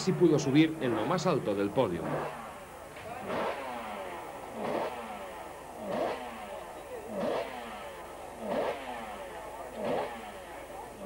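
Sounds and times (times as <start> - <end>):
racing motorcycles passing: 0.0 - 11.0.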